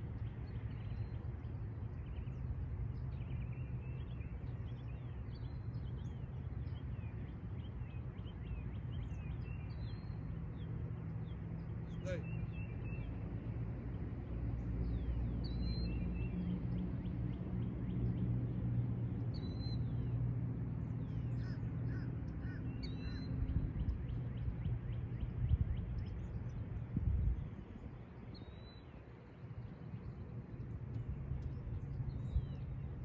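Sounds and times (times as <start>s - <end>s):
birds chirping: 0.0s - 20.2s, 20.8s - 33.0s
steady low rumble: 0.0s - 33.0s.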